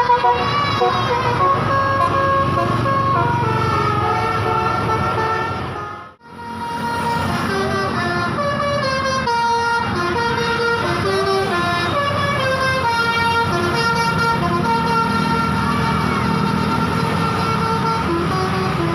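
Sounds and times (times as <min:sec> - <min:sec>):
bus horn playing melody: 0:00.0 - 0:18.9
low engine rumble: 0:00.0 - 0:18.9.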